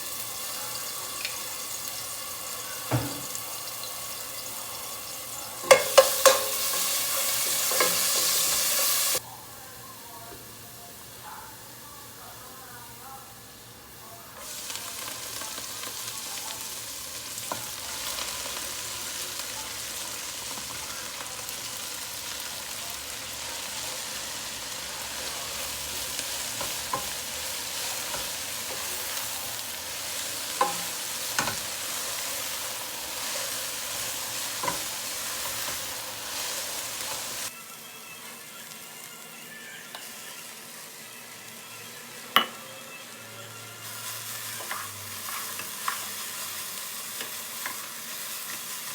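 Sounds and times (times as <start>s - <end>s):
food sizzling in oil: 0.0s - 9.2s, 13.4s - 48.9s.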